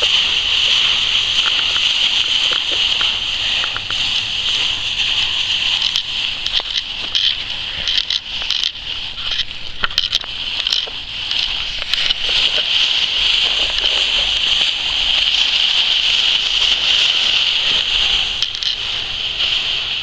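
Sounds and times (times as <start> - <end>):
crackling snaps: 0.0 - 20.0
dry leaves rustling and crunching: 0.0 - 20.0
steady high hiss: 0.0 - 20.0.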